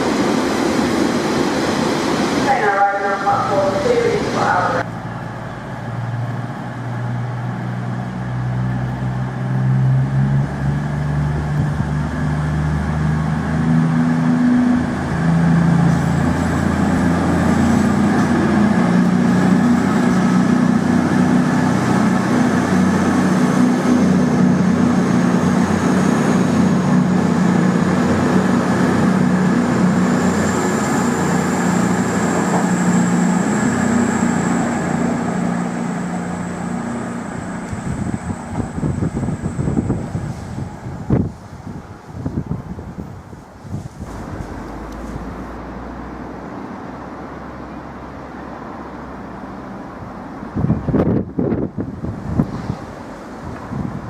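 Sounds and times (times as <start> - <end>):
diesel train engine accelerating: 0.0 - 54.0.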